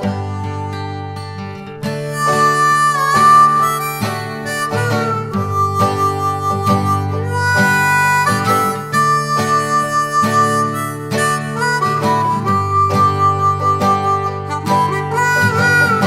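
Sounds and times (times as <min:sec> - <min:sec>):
held melody notes bending in pitch: 0:00.0 - 0:16.0
plucked string chords: 0:00.0 - 0:16.0.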